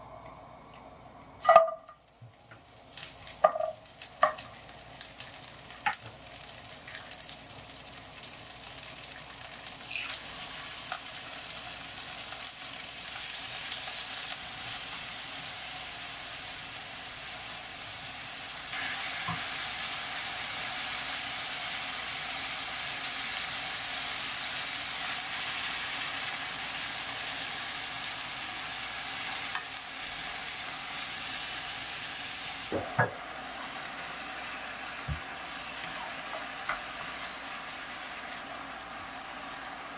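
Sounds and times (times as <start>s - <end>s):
food sizzling in a frying pan: 1.4s - 39.9s.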